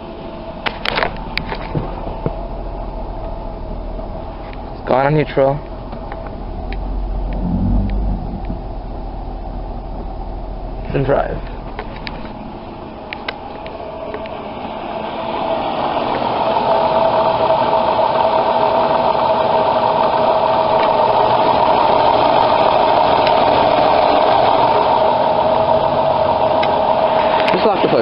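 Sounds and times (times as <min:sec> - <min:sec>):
alternator whine: 0:00.0 - 0:28.0
minivan engine running: 0:00.0 - 0:28.0.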